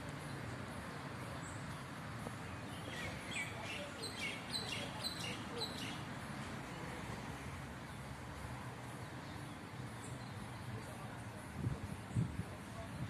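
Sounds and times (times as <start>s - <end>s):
small birds chirping: 0.0s - 7.0s, 7.8s - 13.0s.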